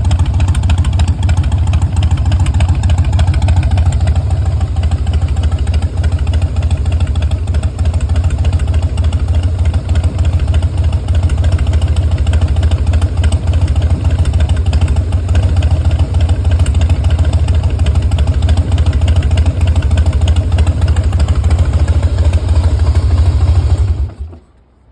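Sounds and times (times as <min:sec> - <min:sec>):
motorcycle engine idling: 0:00.0 - 0:24.5.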